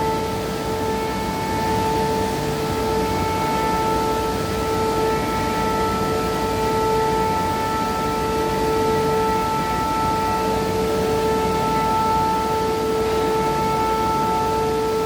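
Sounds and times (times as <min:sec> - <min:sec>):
lathe machine whine: 0:00.0 - 0:15.0
mechanical hum: 0:00.0 - 0:15.0.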